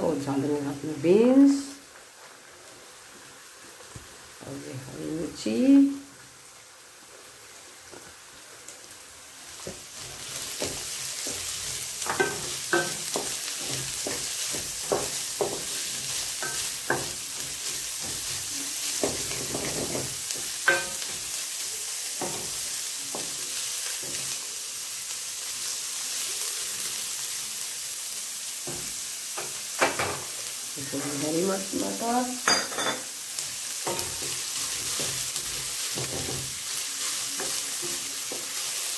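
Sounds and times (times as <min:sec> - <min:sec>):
vegetables sizzling in oil: 0:00.0 - 0:38.9.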